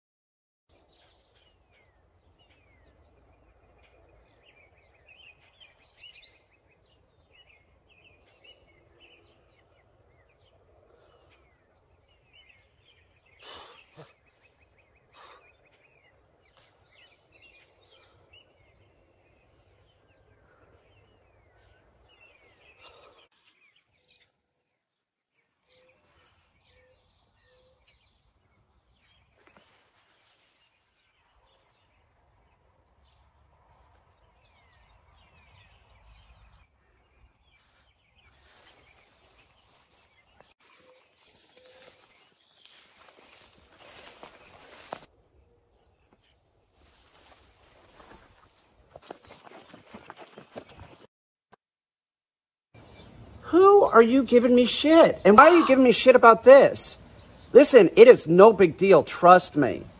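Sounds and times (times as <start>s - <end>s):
small birds chirping: 0.7s - 51.1s, 52.8s - 59.9s.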